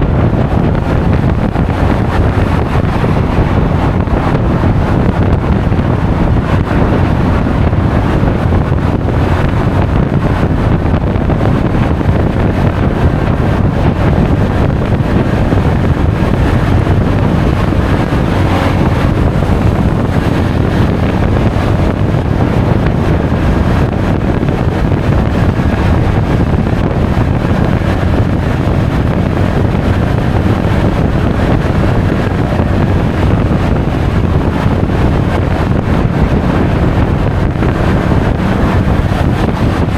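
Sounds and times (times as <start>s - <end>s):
scooter running and road noise: 0.0s - 39.9s
wind rushing over microphone: 0.0s - 39.9s.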